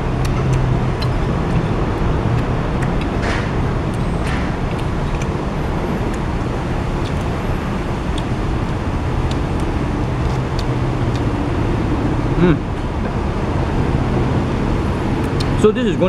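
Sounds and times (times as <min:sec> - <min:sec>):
highway traffic rumble: 0:00.0 - 0:16.0.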